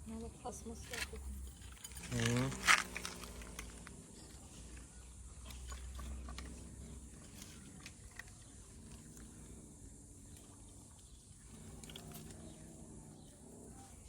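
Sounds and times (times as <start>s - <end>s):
kittens chewing food: 1.7s - 14.0s.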